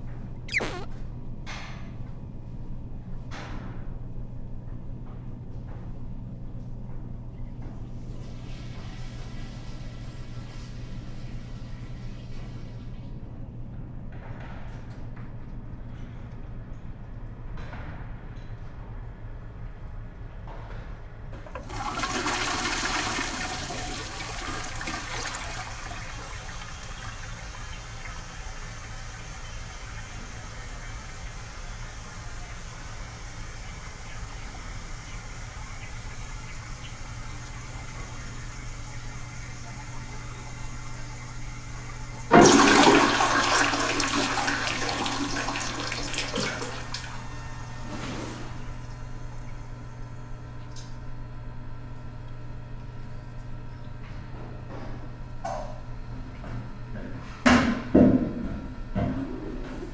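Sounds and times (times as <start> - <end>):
toilet flushing: 0.0 - 17.9, 21.4 - 59.9.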